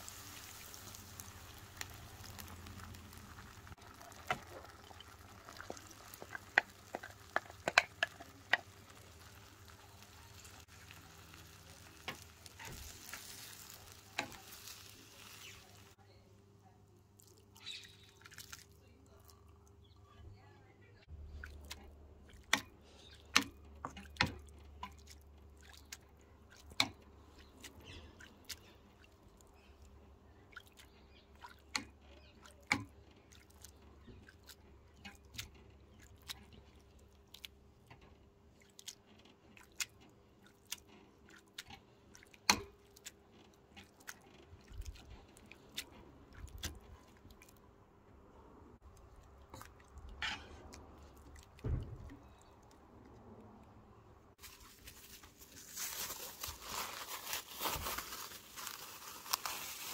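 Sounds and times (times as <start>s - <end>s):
wet squishing of mashed beans: 0.0s - 16.0s, 17.1s - 19.8s, 21.3s - 47.8s, 48.4s - 59.9s.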